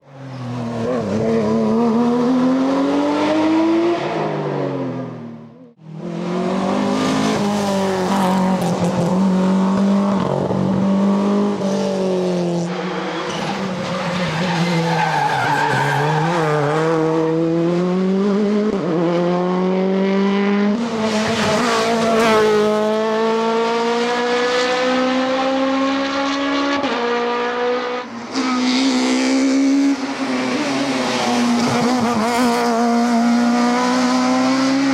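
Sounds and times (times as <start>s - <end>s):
rally car engines revving: 0.2s - 34.9s.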